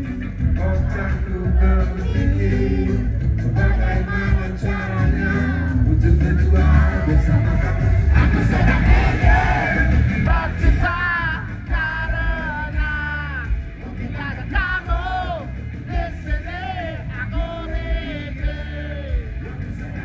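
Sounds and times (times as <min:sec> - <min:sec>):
heavy bass line: 0:00.0 - 0:20.0
live rock band: 0:00.0 - 0:20.0
man singing: 0:00.0 - 0:20.0.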